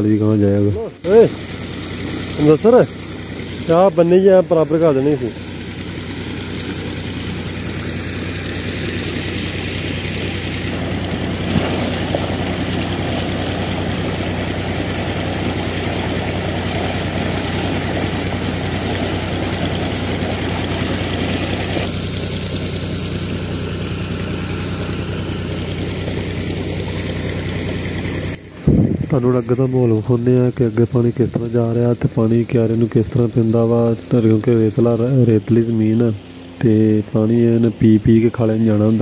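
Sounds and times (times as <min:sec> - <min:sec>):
diesel tractor engine running: 0:00.0 - 0:39.0
water rushing from pipe: 0:00.0 - 0:39.0.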